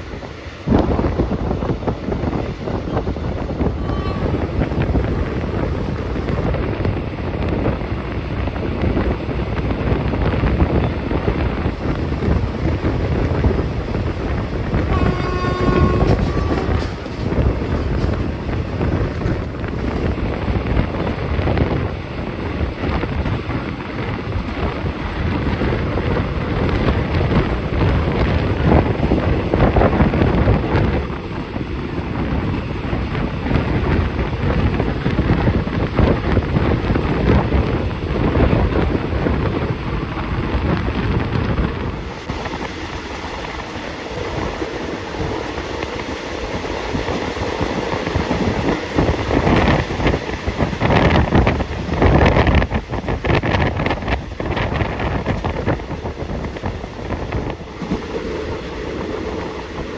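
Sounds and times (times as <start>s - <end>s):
passenger train rumble: 0.0s - 59.9s
wind buffeting microphone: 0.0s - 59.9s.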